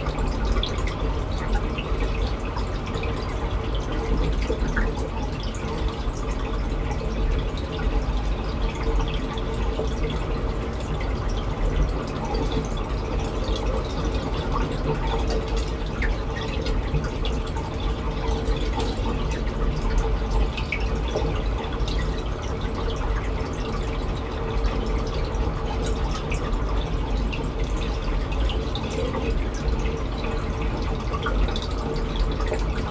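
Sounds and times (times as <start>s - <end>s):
aquarium water trickling and splashing: 0.0s - 32.9s
constant low hum: 0.0s - 32.9s.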